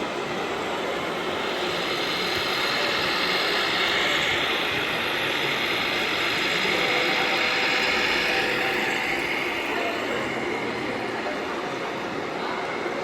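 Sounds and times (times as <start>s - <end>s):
model truck motors whirring: 0.0s - 13.0s.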